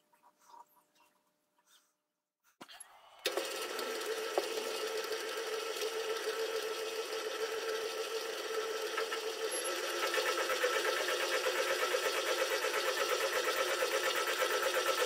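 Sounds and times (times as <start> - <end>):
lathe motor whining: 2.9 - 15.0.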